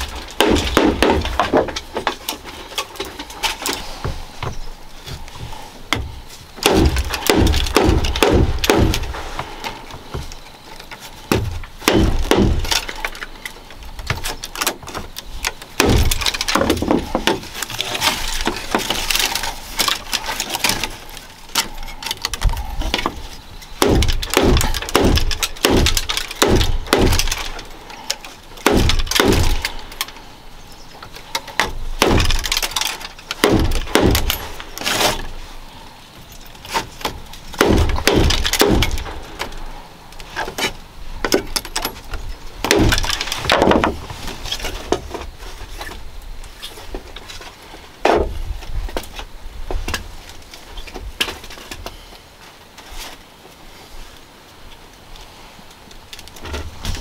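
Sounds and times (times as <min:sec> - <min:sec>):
bamboo strips crackling and clicking: 0:00.0 - 0:57.0.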